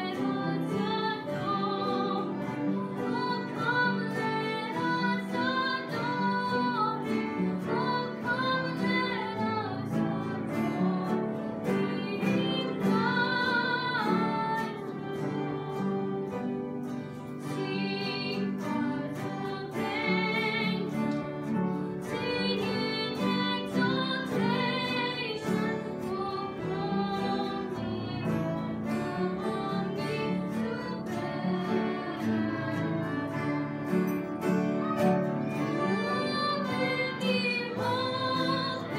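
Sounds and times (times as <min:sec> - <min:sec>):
young women singing a hymn: 0:00.0 - 0:34.2, 0:34.8 - 0:38.9
upright piano chords: 0:00.0 - 0:38.9.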